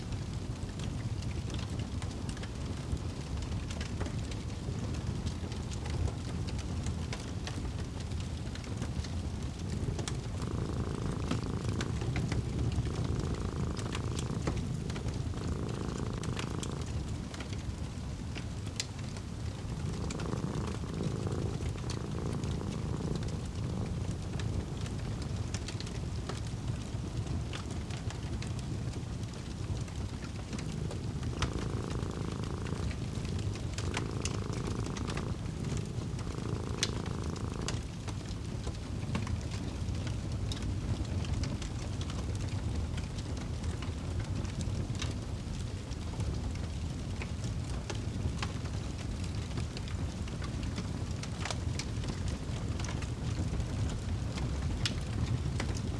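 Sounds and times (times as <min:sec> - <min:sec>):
cat purring: 0:00.0 - 0:55.9
wood fire crackling: 0:00.1 - 0:55.9.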